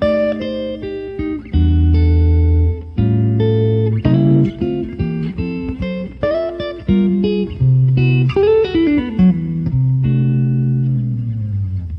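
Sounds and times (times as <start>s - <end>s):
guitar music: 0.0s - 11.9s.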